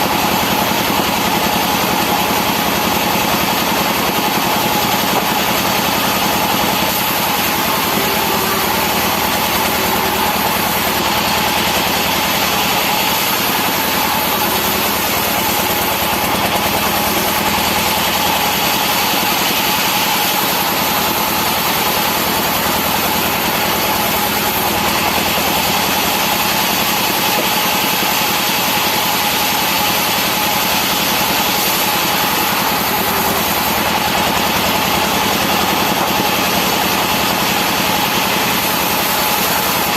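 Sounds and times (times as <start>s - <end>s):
engine drone: 0.0s - 39.9s
high saw whine: 0.0s - 39.9s.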